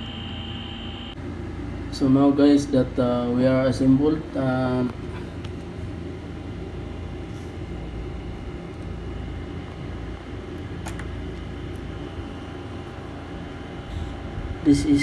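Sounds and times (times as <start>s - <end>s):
low room hum and rumble: 0.0s - 15.0s.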